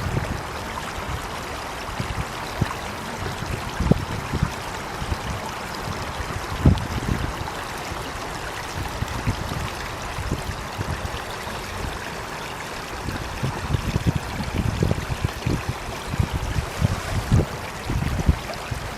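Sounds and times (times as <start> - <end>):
stream rushing: 0.0 - 18.9
water gurgling: 0.0 - 18.9.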